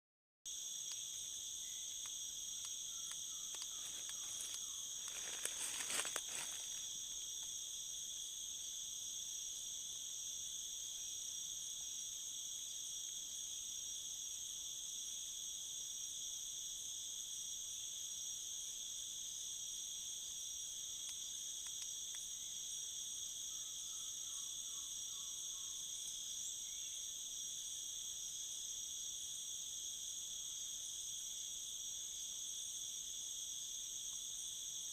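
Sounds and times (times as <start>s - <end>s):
high-pitched insect chorus: 0.5s - 34.9s.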